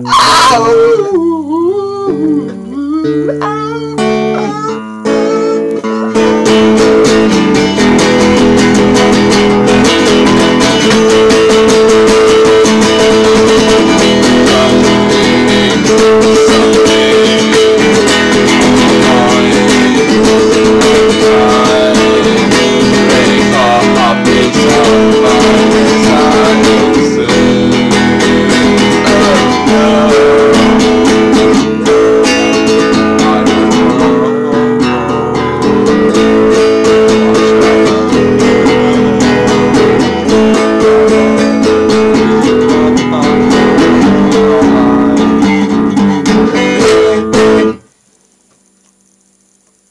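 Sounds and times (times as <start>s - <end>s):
guitar strummed loudly: 0.0s - 49.9s.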